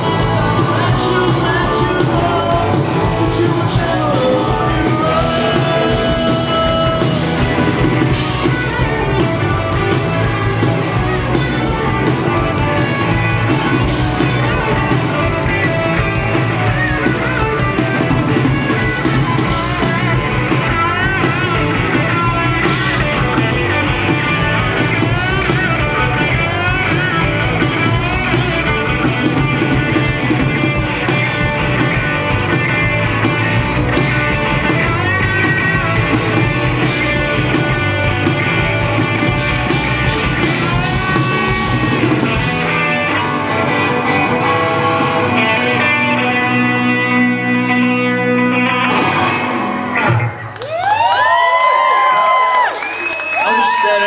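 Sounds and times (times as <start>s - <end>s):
bass guitar: 0.0s - 53.9s
drum kit: 0.0s - 54.0s
electric guitar: 0.0s - 54.0s.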